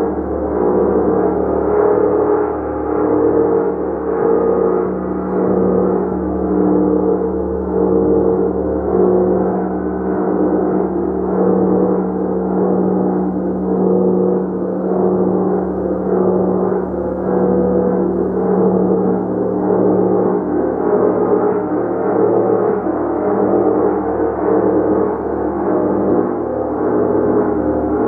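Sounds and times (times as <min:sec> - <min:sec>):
gong ringing drone: 0:00.0 - 0:28.0.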